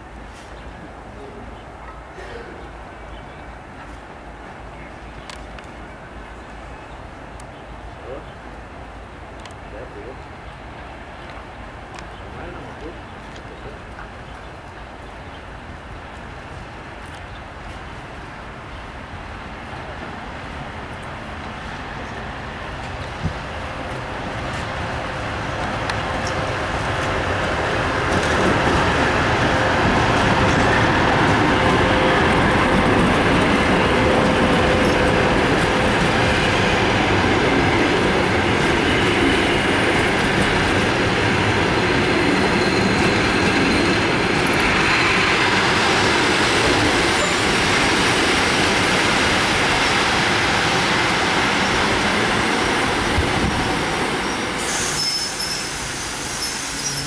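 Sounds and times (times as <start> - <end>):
diesel locomotive engine passing: 0.0 - 57.0
train wheels rumbling and clattering: 9.2 - 57.0.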